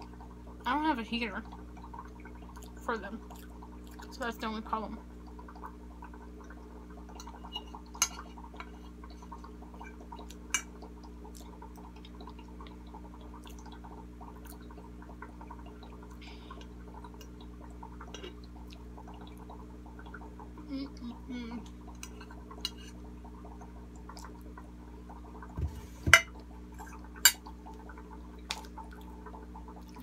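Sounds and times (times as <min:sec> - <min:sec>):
aquarium air pump humming: 0:00.0 - 0:30.0
bubbles gurgling in water: 0:00.0 - 0:30.0.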